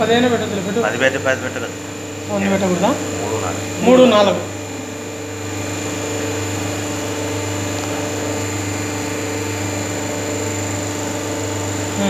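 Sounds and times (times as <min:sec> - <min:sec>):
machine motor humming: 0:00.0 - 0:12.0.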